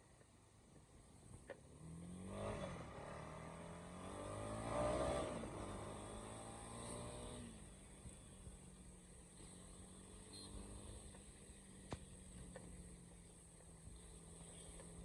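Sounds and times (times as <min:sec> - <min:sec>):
motorcycle engine revving: 0:01.4 - 0:15.0.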